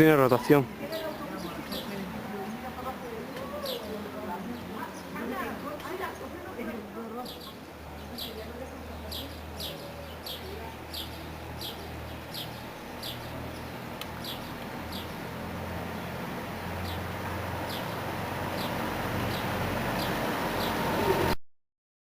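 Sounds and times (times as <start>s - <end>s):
bird chirping: 0.2s - 21.3s.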